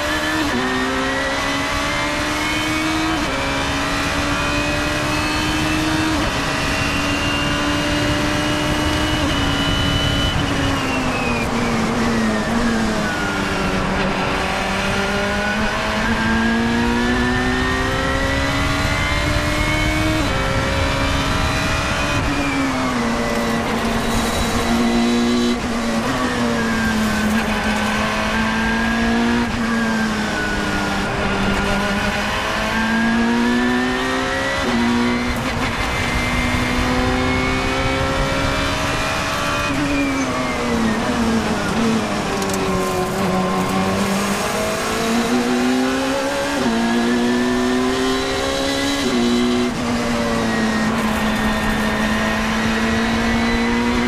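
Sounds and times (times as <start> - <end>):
racing car engine: 0.0 - 54.0
wind and road noise: 0.0 - 54.0.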